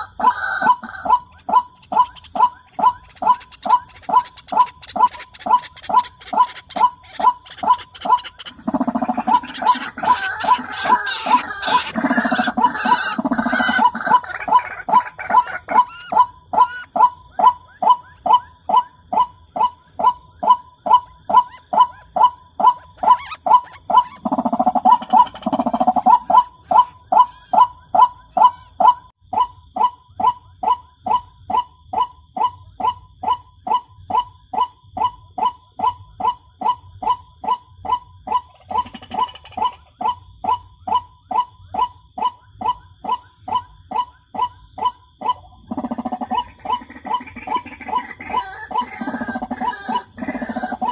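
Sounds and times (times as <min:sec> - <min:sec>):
waterhen calling: 0:00.0 - 0:29.1, 0:37.9 - 0:50.9.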